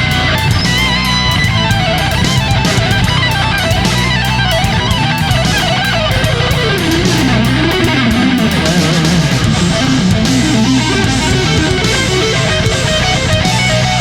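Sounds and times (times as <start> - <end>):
rock music with distorted guitar: 0.0 - 14.0.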